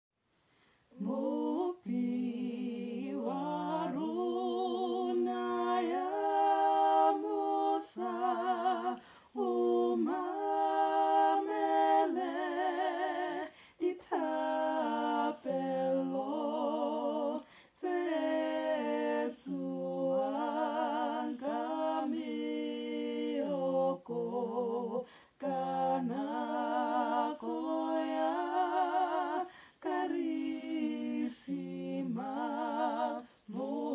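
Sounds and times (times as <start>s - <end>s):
woman singing a cappella: 0.9s - 33.9s.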